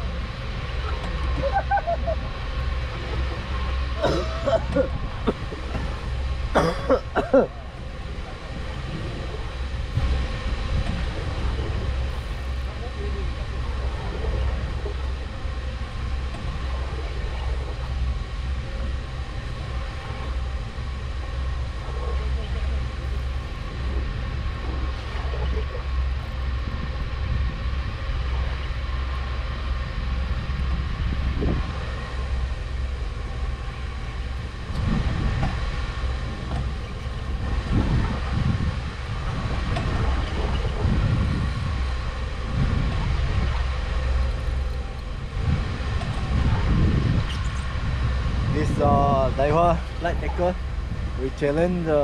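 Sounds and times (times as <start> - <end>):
boat engine rumbling: 0.0 - 52.0
faint constant whine: 0.0 - 52.0
low engine surges: 0.0 - 52.0.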